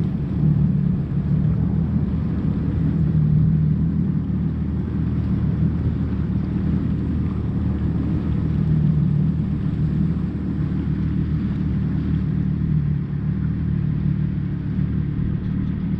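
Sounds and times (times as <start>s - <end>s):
jet ski engine drone: 0.0s - 15.9s.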